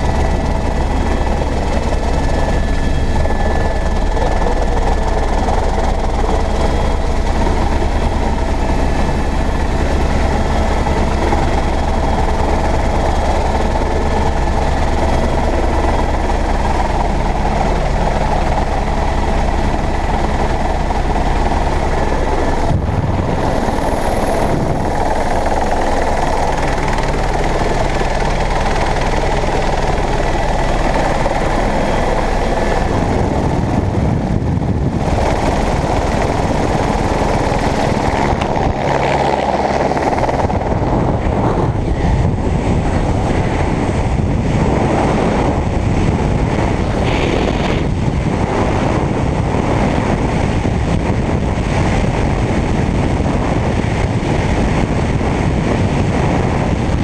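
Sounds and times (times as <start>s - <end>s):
helicopter turbine and rotor: 0.0s - 57.0s
wind rushing: 0.0s - 57.0s.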